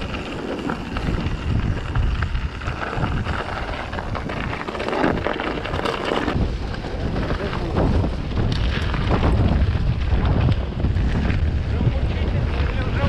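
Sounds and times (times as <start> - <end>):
bike rattling and knocking: 0.0 - 13.0
bike tyres rumbling on dirt: 0.0 - 13.0
wind buffeting microphone: 0.0 - 13.0.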